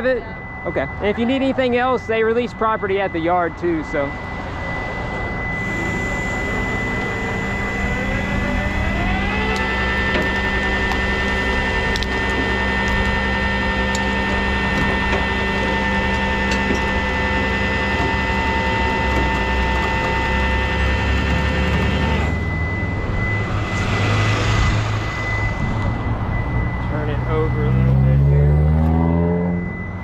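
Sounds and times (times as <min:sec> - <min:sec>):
truck engine drone: 0:00.0 - 0:30.0
hydraulic winch whine: 0:02.6 - 0:30.0.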